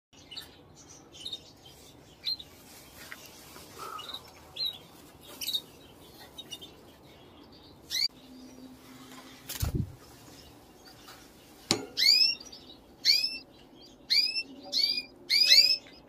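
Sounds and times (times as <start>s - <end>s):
canaries chirping: 0.2s - 16.0s.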